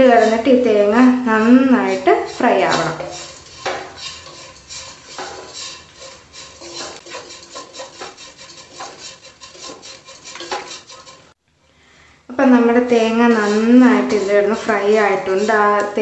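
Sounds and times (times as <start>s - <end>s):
coconut frying: 0.0s - 11.4s, 12.4s - 16.0s
spatula scraping a pan: 0.0s - 11.4s, 12.4s - 16.0s.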